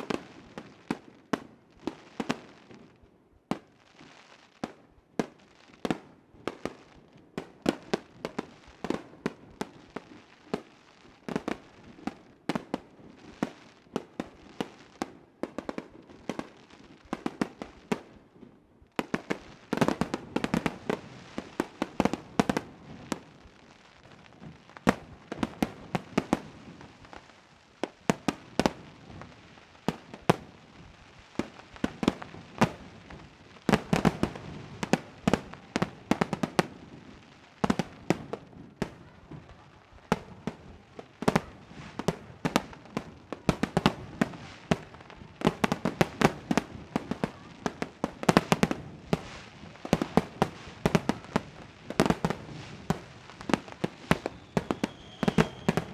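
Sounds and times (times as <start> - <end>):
fireworks bangs with echoes: 3.5 - 55.9.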